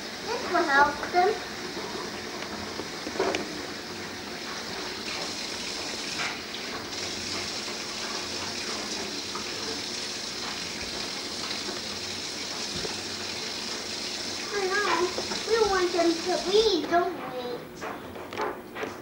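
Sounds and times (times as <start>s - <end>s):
tap water running: 0.0s - 17.1s.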